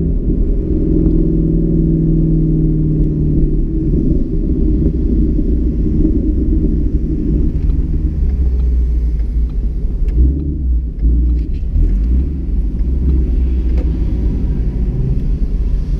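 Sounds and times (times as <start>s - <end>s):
car engine low rumble: 0.0s - 15.9s.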